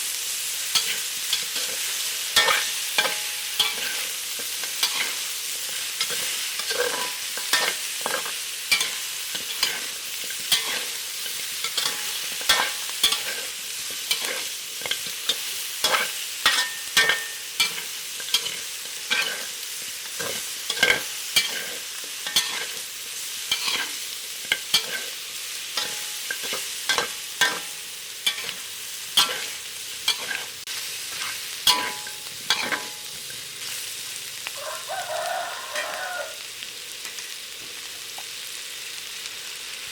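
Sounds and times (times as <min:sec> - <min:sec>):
food sizzling in a pan: 0:00.0 - 0:39.9
spatula scraping a pan: 0:00.7 - 0:33.8.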